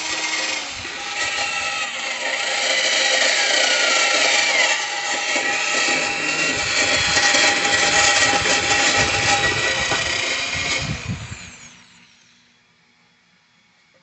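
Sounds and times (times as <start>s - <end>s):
wire brush scrubbing steel: 0.0s - 11.9s.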